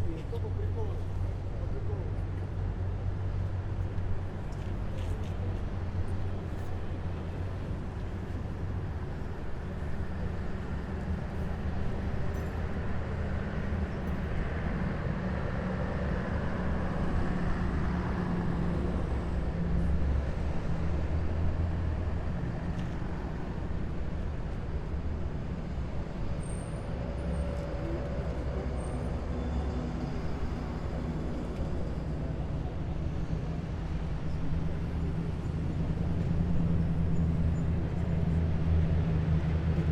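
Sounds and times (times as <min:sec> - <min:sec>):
heavy diesel vehicles rumbling past: 0:00.0 - 0:39.9.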